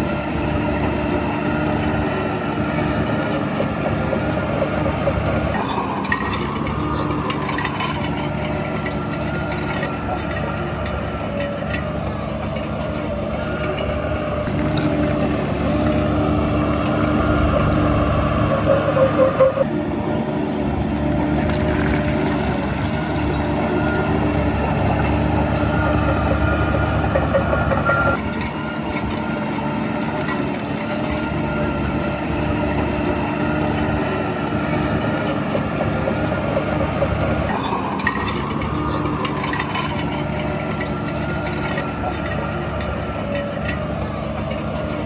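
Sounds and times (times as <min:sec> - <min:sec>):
heavy diesel engine running: 0:00.0 - 0:45.0
higher engine tone: 0:00.0 - 0:45.0
high metallic squeaks: 0:01.0 - 0:19.7, 0:21.4 - 0:28.2, 0:32.4 - 0:45.0.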